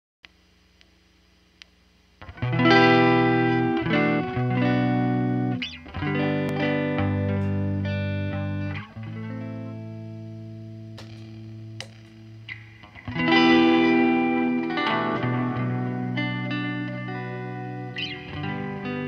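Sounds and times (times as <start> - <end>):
faint amp hum: 0.2 - 19.0
electric guitar strumming chords: 2.2 - 19.0.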